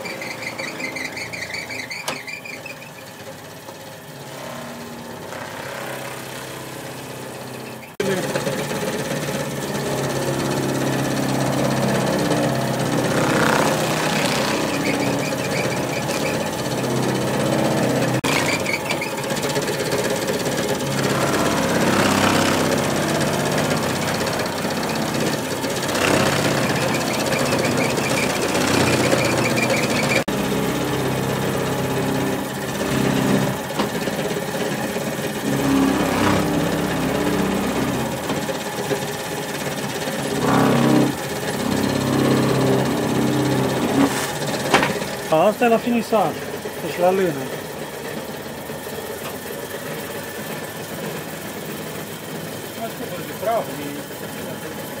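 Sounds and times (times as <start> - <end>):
machine motor hum and rattle: 0.0 - 55.0.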